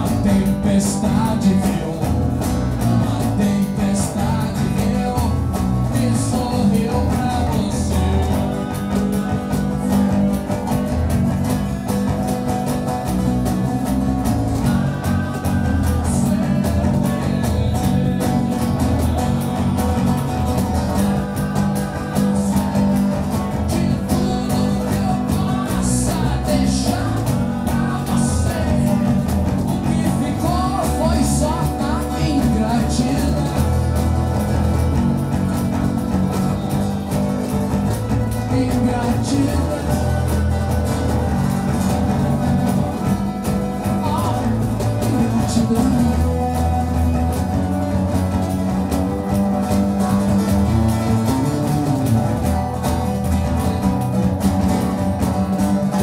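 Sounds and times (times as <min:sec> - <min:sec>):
man singing: 0:00.0 - 0:48.6
strummed acoustic guitar: 0:00.0 - 0:56.0.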